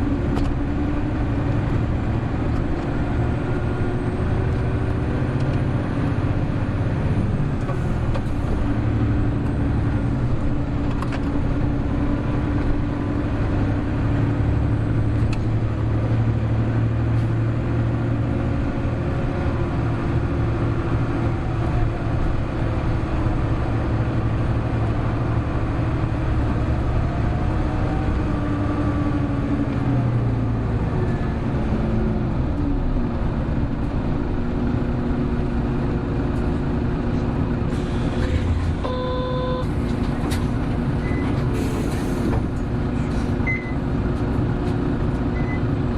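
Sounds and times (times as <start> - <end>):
bus diesel engine humming: 0.0 - 45.9.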